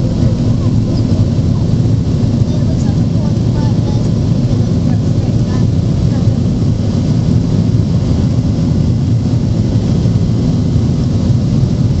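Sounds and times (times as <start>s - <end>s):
air rushing past fuselage: 0.0s - 12.0s
jet engines rumbling: 0.0s - 12.0s.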